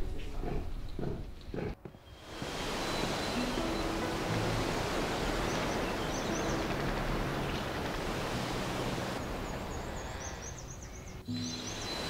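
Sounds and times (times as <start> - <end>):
wind through leafy trees: 1.3 - 12.0.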